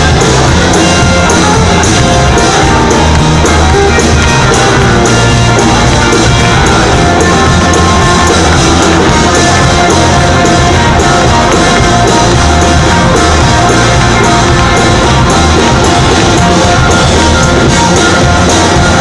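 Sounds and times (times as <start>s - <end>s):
electric guitar: 0.0s - 19.0s
live rock band playing: 0.0s - 19.0s
steady drum beat: 0.0s - 19.0s.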